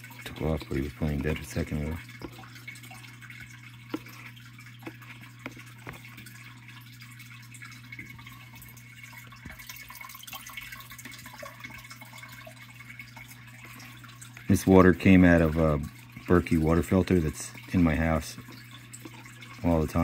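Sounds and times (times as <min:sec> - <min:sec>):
low steady hum: 0:00.0 - 0:20.0
water dripping: 0:00.0 - 0:20.0.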